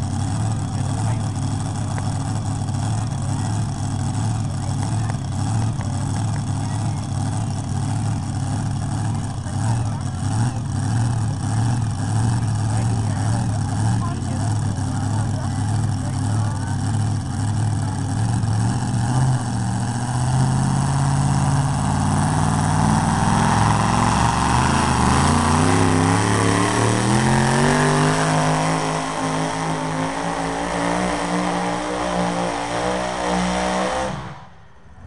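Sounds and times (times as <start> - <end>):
tractor engine revving: 0.0 - 35.0.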